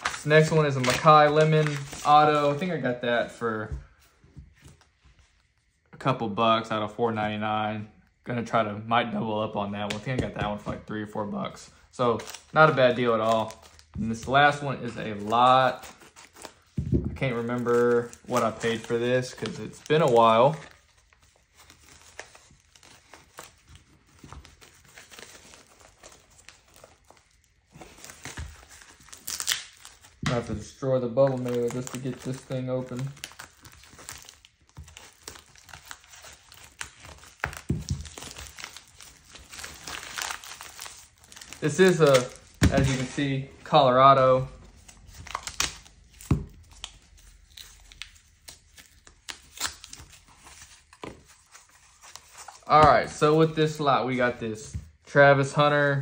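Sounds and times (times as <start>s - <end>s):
plastic mailer crinkling: 0.0s - 3.0s, 12.0s - 53.8s
cardboard sleeve rustling: 0.0s - 5.6s, 12.1s - 55.0s.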